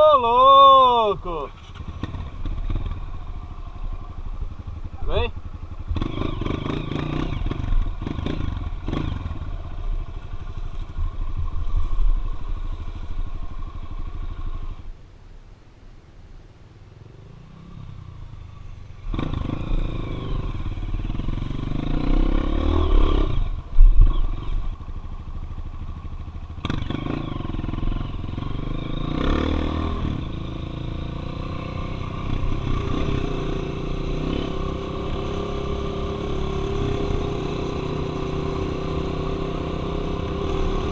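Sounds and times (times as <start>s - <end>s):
motorcycle engine revving: 0.8s - 14.8s, 17.0s - 40.9s.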